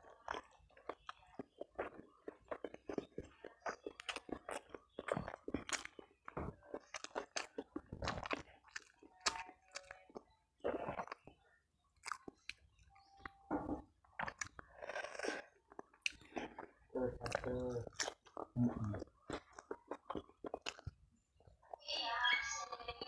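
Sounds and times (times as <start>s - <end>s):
person chewing and smacking: 0.0s - 21.8s.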